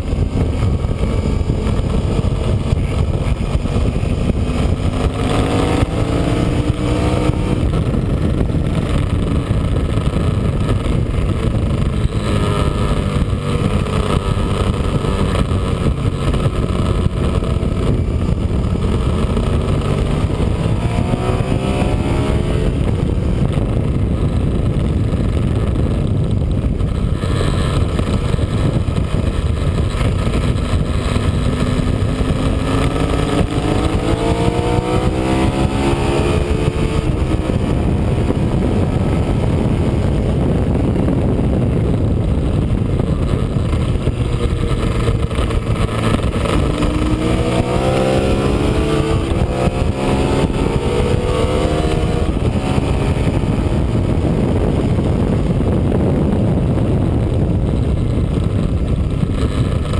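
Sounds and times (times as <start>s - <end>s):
motorcycle engine accelerating: 0.0s - 59.9s
wind rushing: 0.0s - 59.9s.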